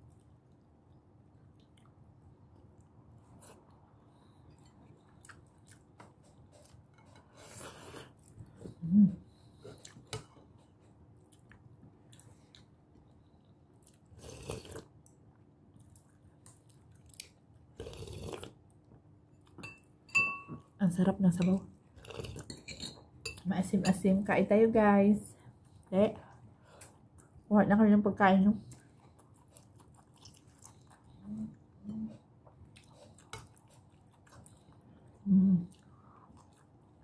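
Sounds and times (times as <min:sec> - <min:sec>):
person chewing food: 0:00.0 - 0:19.8, 0:21.8 - 0:23.4, 0:28.7 - 0:37.0.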